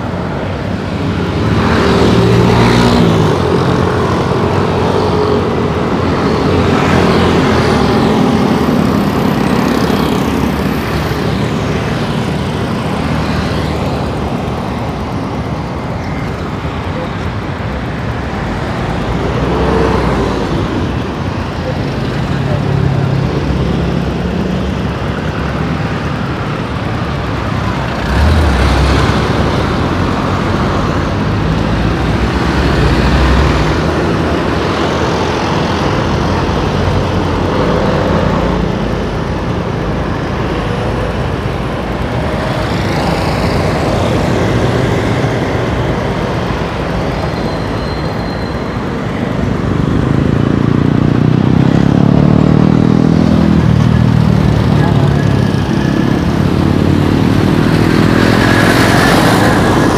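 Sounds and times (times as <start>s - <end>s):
road traffic passing: 0.0s - 59.9s
vehicle engine: 0.0s - 59.9s.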